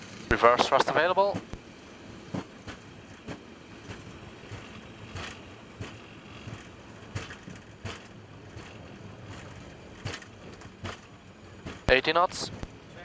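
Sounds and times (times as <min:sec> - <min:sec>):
jet engine and rolling rush: 0:00.0 - 0:13.0.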